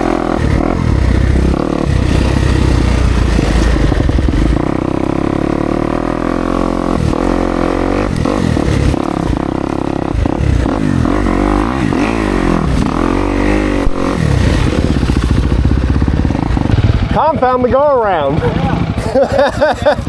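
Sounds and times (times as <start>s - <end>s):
clatter: 0.0s - 6.0s, 6.6s - 17.2s
dirt bike engine revving: 0.0s - 20.0s.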